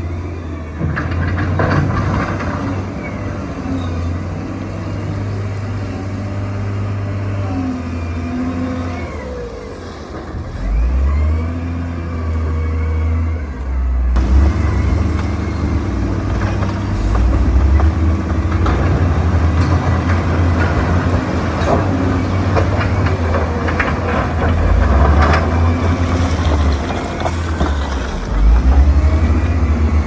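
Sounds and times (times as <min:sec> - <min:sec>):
bulldozer diesel engine under load: 0:00.0 - 0:30.0.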